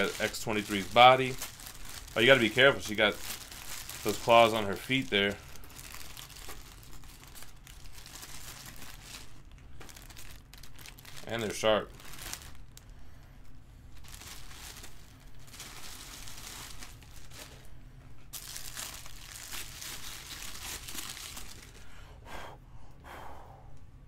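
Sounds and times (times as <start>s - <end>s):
plastic bag crinkling: 0.0s - 12.9s, 14.0s - 21.9s.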